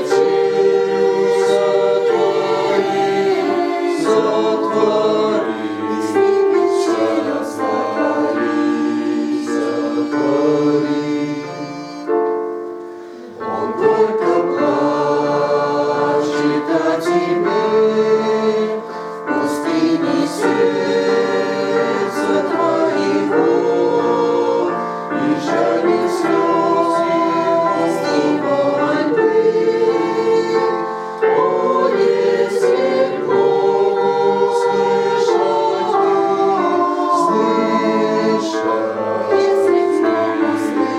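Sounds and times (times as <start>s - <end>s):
choir singing a hymn: 0.0s - 40.9s.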